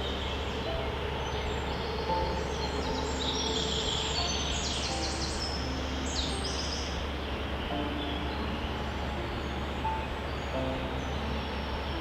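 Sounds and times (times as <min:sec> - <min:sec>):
birds chirping: 0:00.0 - 0:12.0
steady background noise: 0:00.0 - 0:12.0.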